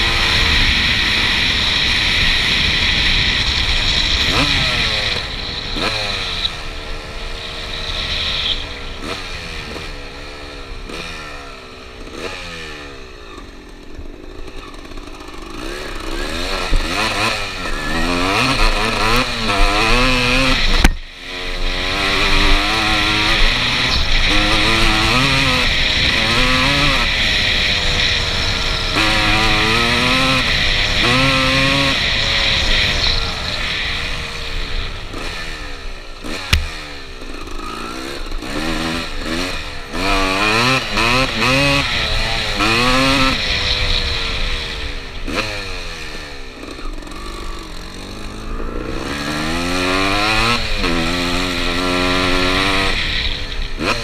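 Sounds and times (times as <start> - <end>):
two-stroke dirt bike engine revving: 0.0 - 54.0.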